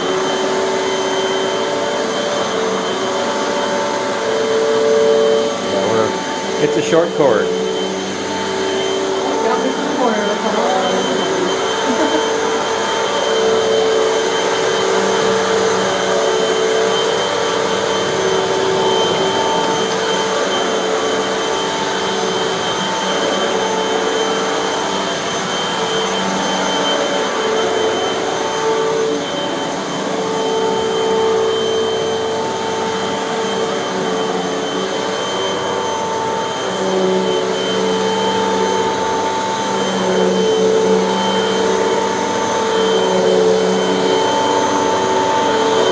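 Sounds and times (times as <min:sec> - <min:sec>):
vacuum cleaner motor whine: 0:00.0 - 0:45.9.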